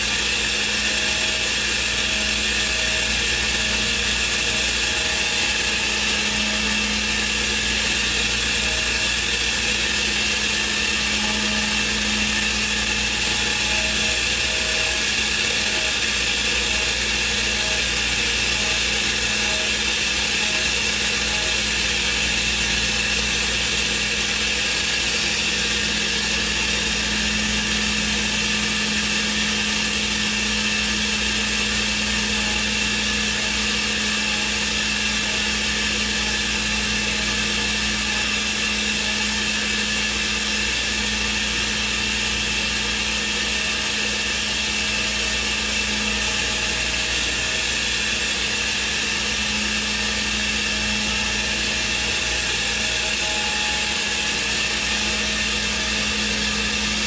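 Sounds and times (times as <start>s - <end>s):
cnc router humming and hissing: 0.0s - 57.0s.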